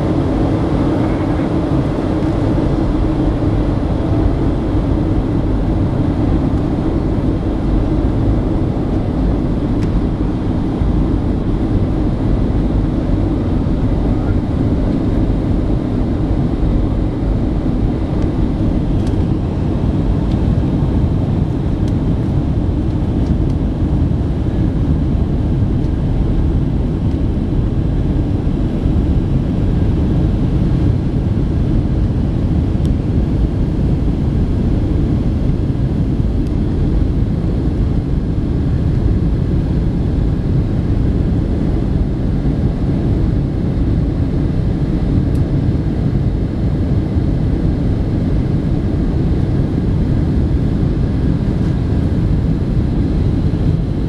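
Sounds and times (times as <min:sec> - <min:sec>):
jet engines low rumble: 0:00.0 - 0:54.0.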